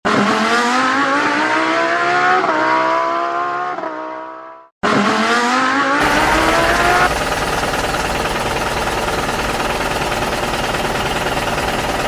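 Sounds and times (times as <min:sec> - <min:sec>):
race car engine accelerating: 0:00.1 - 0:12.0.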